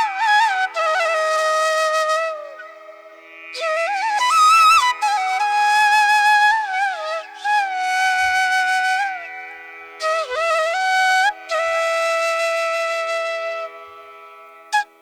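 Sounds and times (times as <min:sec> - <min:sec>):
flute music: 0:00.0 - 0:09.3, 0:10.0 - 0:14.1, 0:14.7 - 0:15.0.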